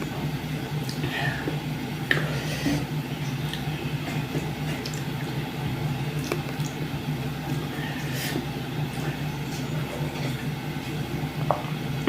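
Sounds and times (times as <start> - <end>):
steady low hum: 0.0 - 12.0
wet squishing of eating: 0.0 - 12.0.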